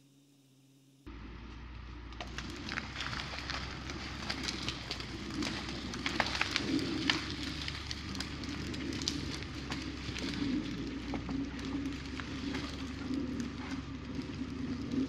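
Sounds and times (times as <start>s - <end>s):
steady low hum: 0.0s - 15.0s
twigs and branches snapping: 1.4s - 15.0s.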